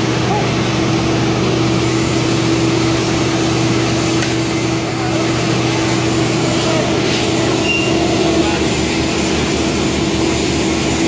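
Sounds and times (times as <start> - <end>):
machine drone with low hum: 0.0 - 11.0.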